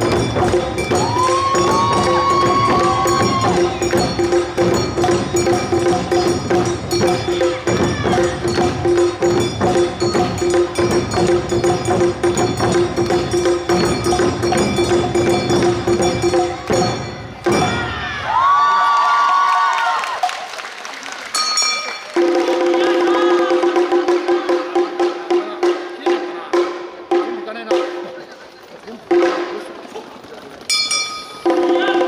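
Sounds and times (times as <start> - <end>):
drums and hand gongs: 0.0 - 18.6, 21.4 - 32.0.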